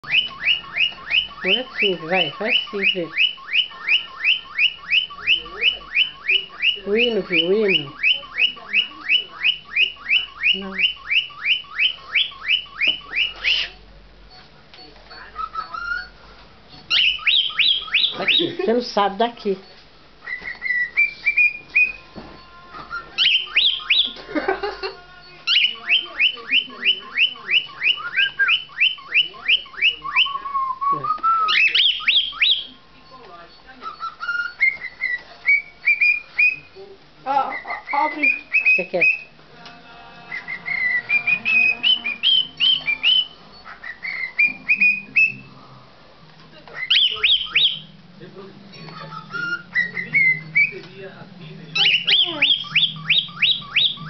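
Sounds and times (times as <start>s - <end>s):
cockatiel whistling: 0.0s - 13.8s, 15.1s - 16.2s, 16.8s - 18.7s, 20.2s - 36.8s, 37.4s - 39.4s, 40.2s - 45.7s, 46.7s - 48.1s, 48.7s - 54.0s.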